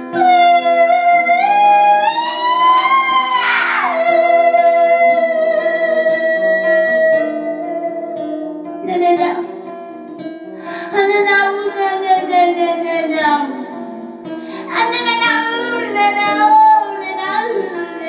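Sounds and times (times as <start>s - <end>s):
plucked acoustic guitar: 0.0s - 18.0s
woman singing: 0.0s - 18.0s.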